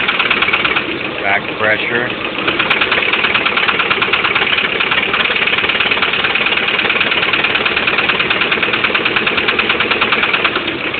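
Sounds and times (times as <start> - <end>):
car engine idling with knocking: 0.0 - 10.9.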